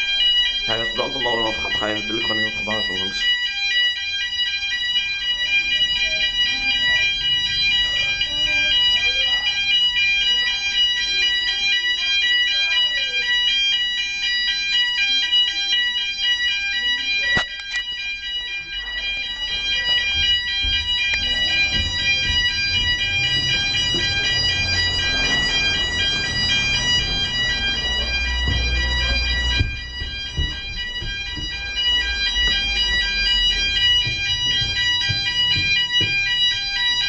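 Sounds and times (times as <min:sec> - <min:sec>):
fire alarm pulsing: 0:00.0 - 0:37.0.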